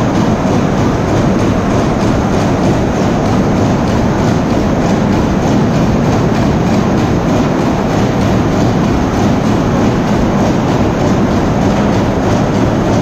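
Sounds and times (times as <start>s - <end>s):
steam engine running: 0.0s - 13.0s.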